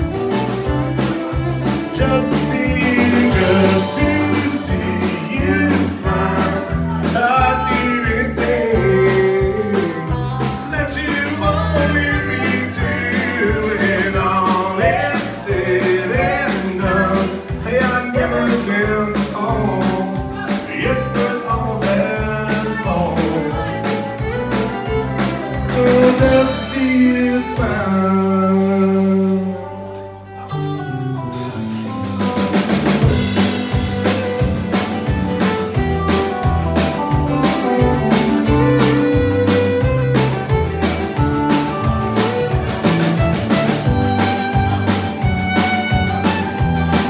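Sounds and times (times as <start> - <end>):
fiddle: 0.0 - 32.0, 33.0 - 47.0
acoustic guitar: 0.0 - 47.0
bass guitar: 0.0 - 47.0
drum kit beat: 0.0 - 47.0.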